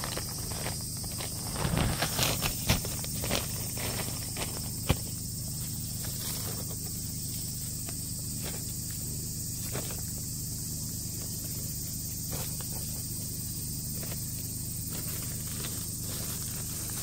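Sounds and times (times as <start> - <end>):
rustles and scrapes of plastic sheeting: 0.0 - 10.3, 11.1 - 17.0
steady low hum: 0.0 - 17.0.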